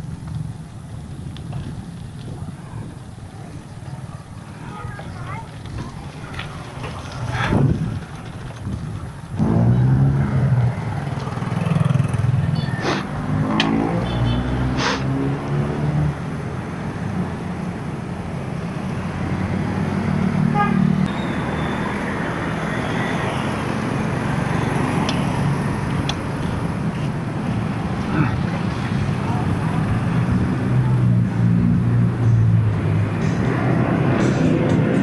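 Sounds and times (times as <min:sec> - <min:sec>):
motorcycle engines passing: 0:00.0 - 0:35.0
road and wind noise: 0:00.0 - 0:35.0.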